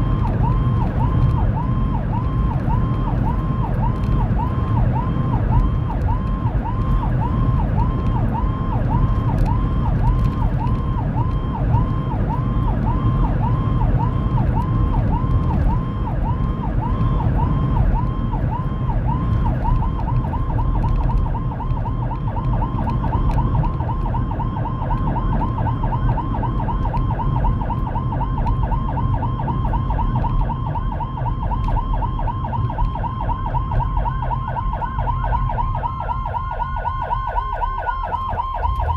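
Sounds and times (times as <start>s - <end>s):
electronic siren sweeping: 0.0s - 38.9s
road and engine noise: 0.0s - 38.9s.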